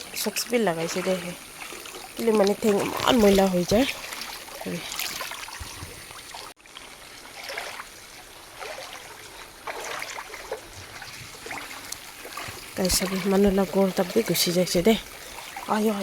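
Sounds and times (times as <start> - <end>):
trickling water: 0.0 - 16.0.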